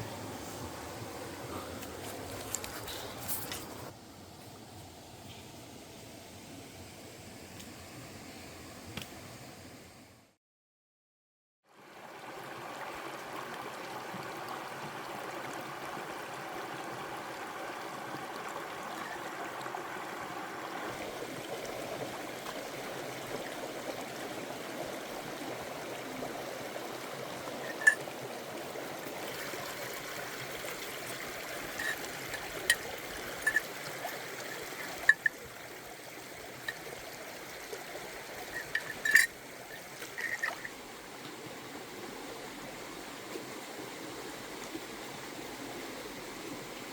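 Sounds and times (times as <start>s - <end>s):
stream flowing over rocks: 0.0s - 4.0s, 11.7s - 46.9s.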